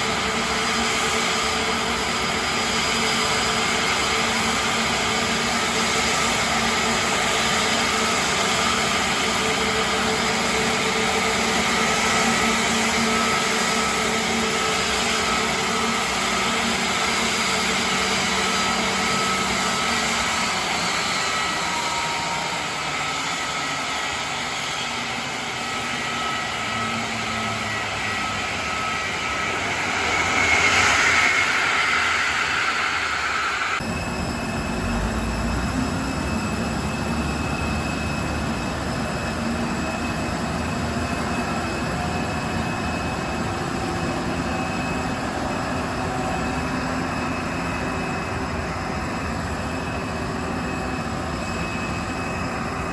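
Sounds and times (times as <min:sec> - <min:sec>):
jet engine whining tones: 0:00.0 - 0:52.9
jet engines rushing: 0:00.0 - 0:52.9.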